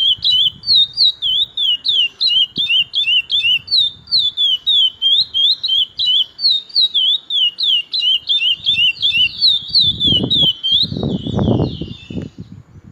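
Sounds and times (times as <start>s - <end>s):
finch singing whistled notes: 0.0s - 12.5s.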